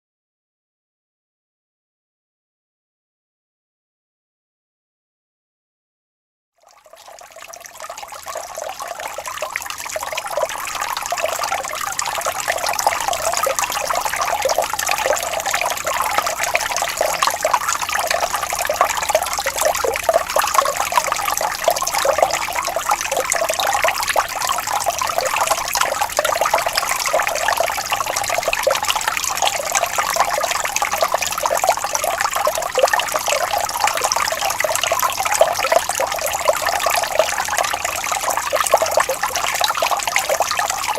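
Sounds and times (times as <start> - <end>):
stream trickling over stones: 6.6 - 40.9.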